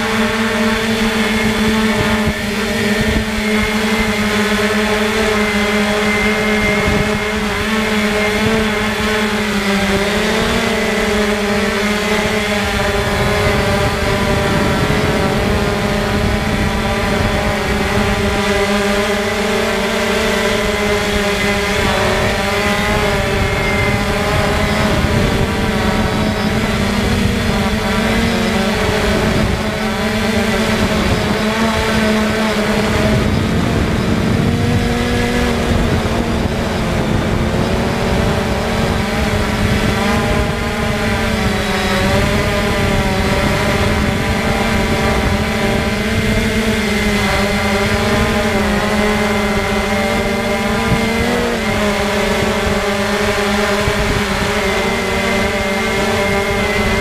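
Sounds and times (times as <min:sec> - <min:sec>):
drone propellers whirring: 0:00.0 - 0:57.0.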